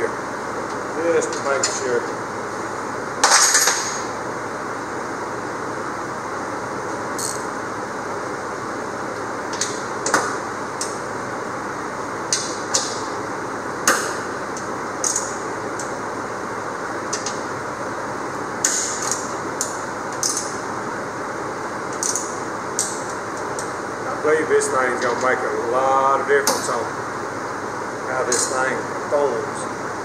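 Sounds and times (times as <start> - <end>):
shop fan noise: 0.0 - 30.0.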